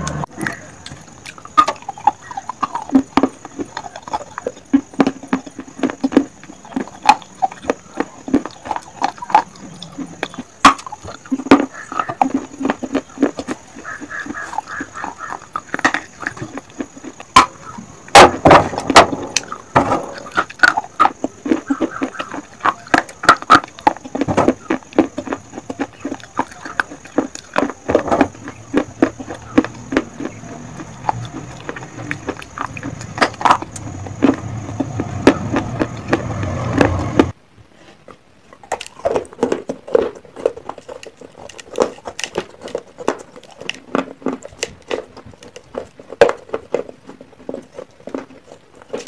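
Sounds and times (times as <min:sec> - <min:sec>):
crunching and chewing clay: 0:00.0 - 0:49.0.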